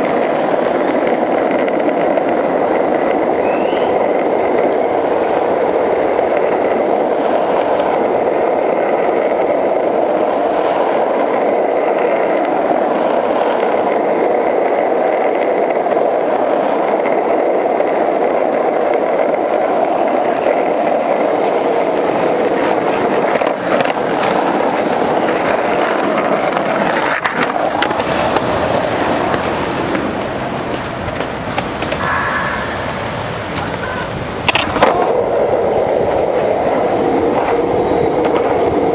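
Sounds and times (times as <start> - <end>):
skateboard clacks: 0.0 - 38.9
skateboard wheels rolling on asphalt: 0.0 - 38.9.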